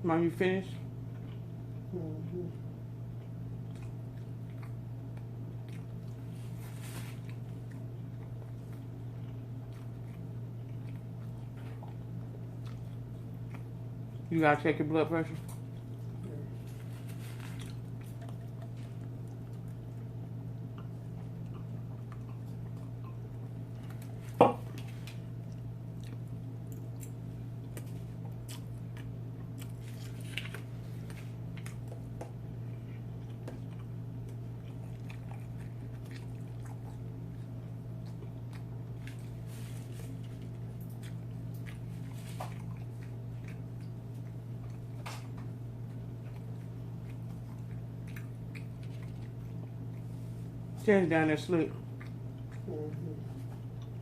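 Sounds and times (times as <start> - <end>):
steady low hum: 0.0 - 54.0
person chewing food: 1.0 - 14.3, 15.4 - 50.8, 51.7 - 54.0.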